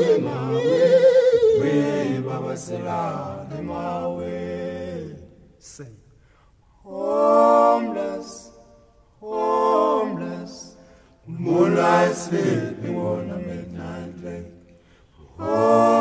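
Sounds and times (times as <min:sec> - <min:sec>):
group singing unaccompanied: 0:00.0 - 0:05.4, 0:06.9 - 0:16.0.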